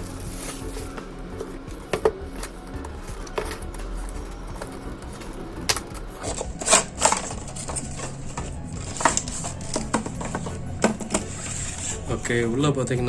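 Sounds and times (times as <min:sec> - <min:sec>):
packaging clicks and taps: 0:00.0 - 0:11.5.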